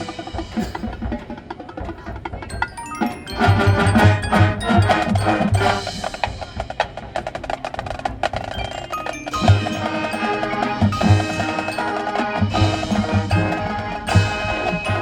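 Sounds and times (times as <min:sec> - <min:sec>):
rapid percussion strokes: 0:00.0 - 0:15.0
marching band playing: 0:02.4 - 0:15.0.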